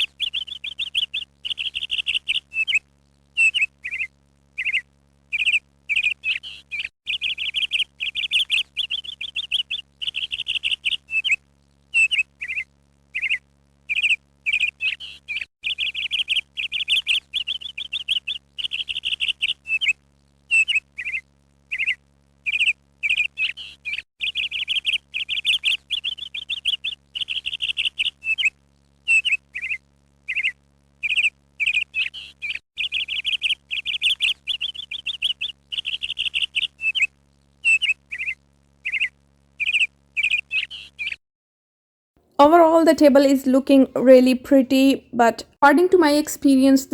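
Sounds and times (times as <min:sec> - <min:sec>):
small bird chirping and trilling: 0:00.0 - 0:02.8, 0:03.4 - 0:41.2.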